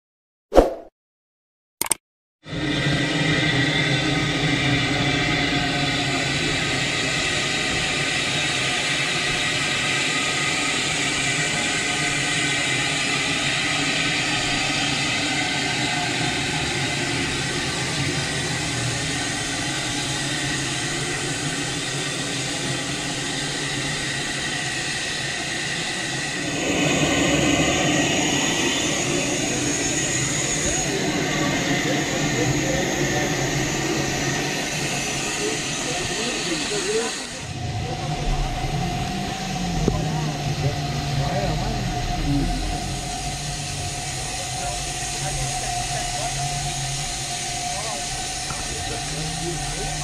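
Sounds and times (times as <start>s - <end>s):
steam locomotive hissing: 2.5s - 50.0s
faint steady tones: 4.4s - 50.0s.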